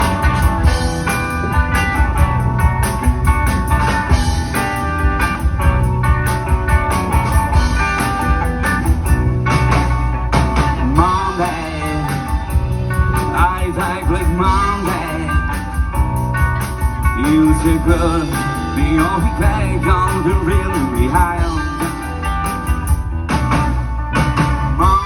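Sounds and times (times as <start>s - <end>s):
drum beat: 0.0s - 23.7s
bass: 0.0s - 25.0s
guitar: 0.0s - 25.0s.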